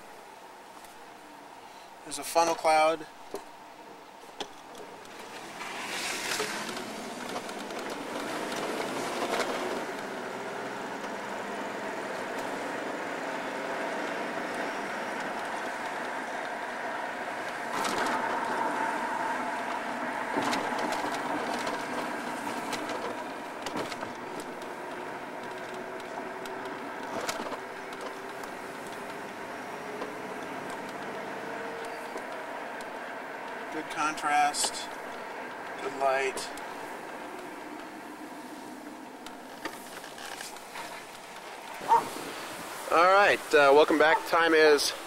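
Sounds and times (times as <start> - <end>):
vehicle engine and road noise: 0.0 - 45.0.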